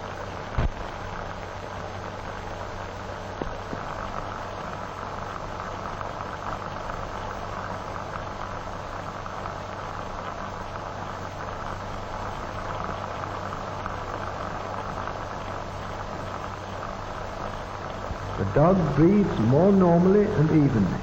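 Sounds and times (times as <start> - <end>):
film soundtrack hiss and hum: 0.0 - 21.0.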